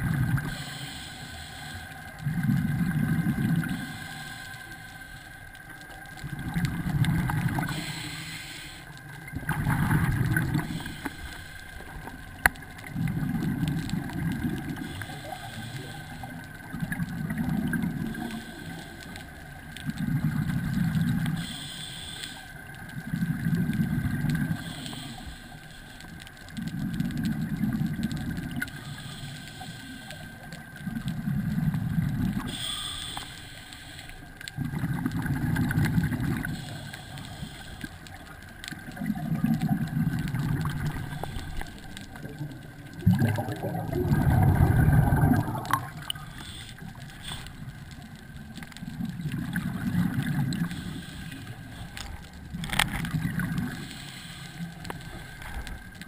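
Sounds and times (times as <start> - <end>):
underwater bubbles gurgling: 0.0 - 56.0.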